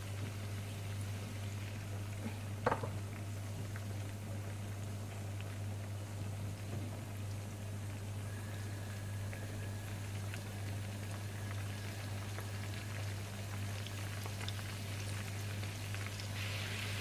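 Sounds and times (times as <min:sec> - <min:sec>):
small pops of frying: 0:00.0 - 0:08.0, 0:09.2 - 0:17.0
oil bubbling and sizzling in a pan: 0:00.0 - 0:17.0
steady low hum: 0:00.0 - 0:17.0.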